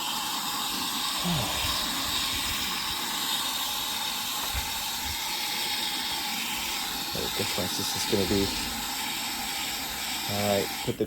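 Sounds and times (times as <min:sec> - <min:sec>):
hose nozzle spraying water: 0:00.0 - 0:11.0.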